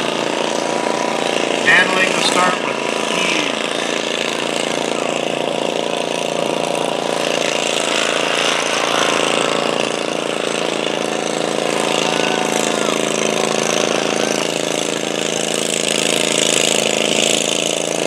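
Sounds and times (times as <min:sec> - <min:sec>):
tractor engine running hard: 0:00.0 - 0:18.0.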